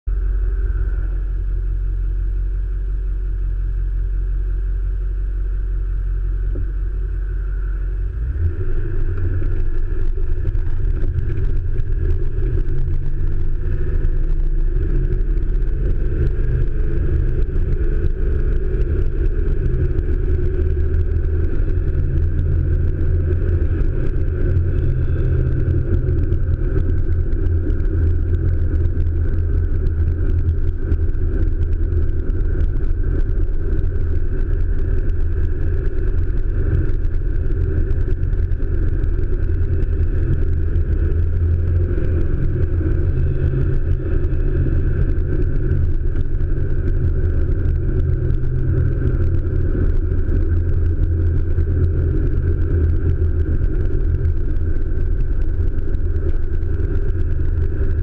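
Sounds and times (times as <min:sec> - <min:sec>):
diesel engine drone from inside cab: 0:00.0 - 0:58.0.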